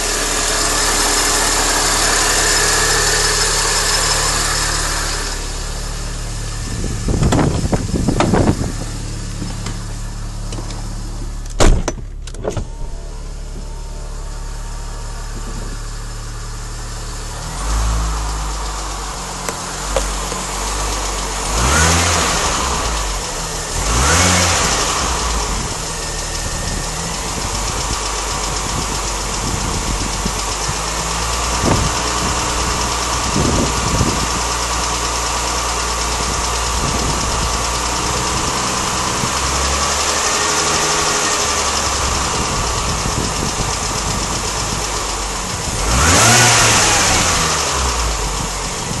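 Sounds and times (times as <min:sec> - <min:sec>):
car engine revving and idling: 0:00.0 - 0:49.0
engine ticking: 0:00.0 - 0:49.0.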